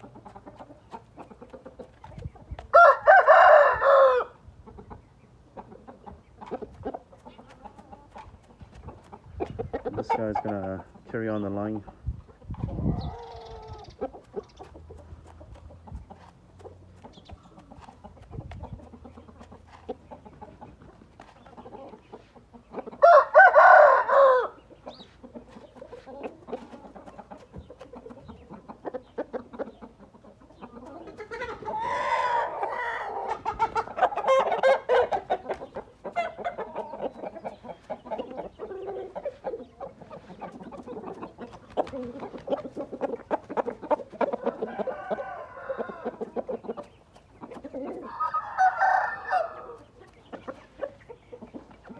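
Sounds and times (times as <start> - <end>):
roosters crowing and clucking: 0.0 - 51.9.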